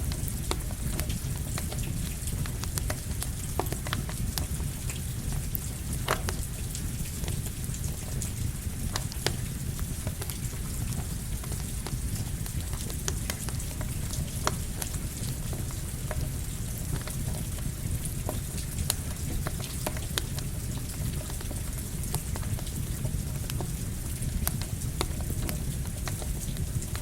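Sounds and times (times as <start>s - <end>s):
campfire crackling and popping: 0.0s - 27.0s
steady rain: 0.0s - 27.0s.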